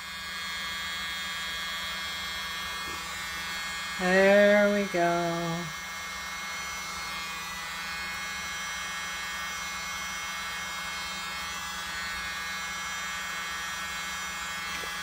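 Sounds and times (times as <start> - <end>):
electric blower motor hum: 0.0 - 15.0.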